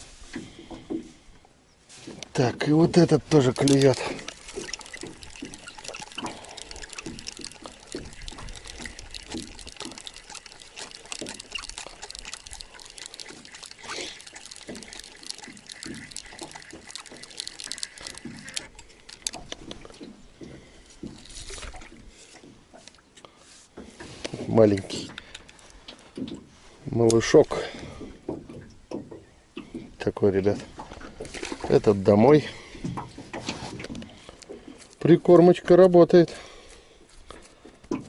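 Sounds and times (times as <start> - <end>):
water splashing and dripping: 2.0 - 38.0.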